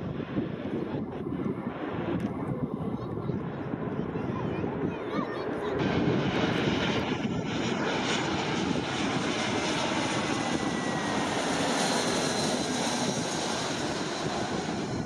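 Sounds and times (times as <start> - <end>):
faint jet whine: 0.0 - 15.0
jet airliner rumble: 0.0 - 15.0.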